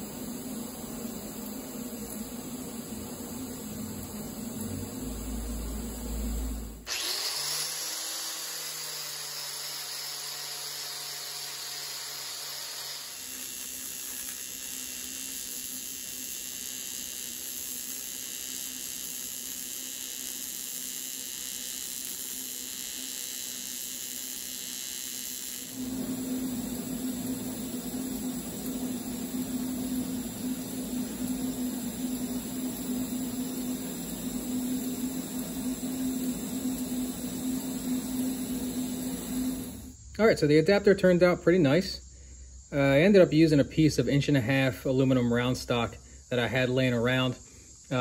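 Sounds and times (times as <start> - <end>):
electric motor hum: 0.0 - 40.0
welding arc hissing: 0.0 - 40.1.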